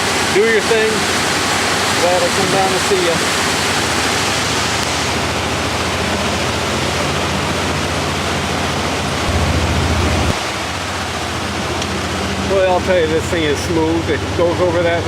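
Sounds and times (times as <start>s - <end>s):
engine running: 0.0s - 15.0s
river rushing: 0.0s - 15.0s.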